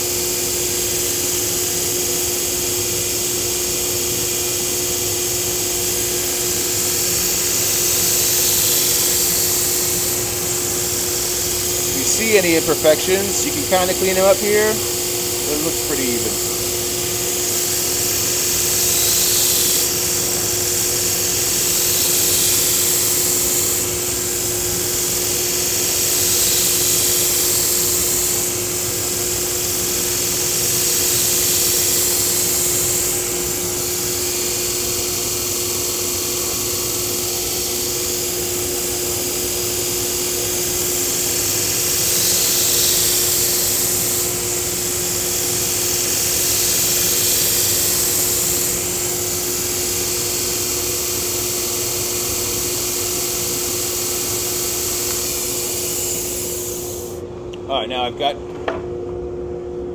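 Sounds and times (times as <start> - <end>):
belt grinder humming: 5.4 - 57.2.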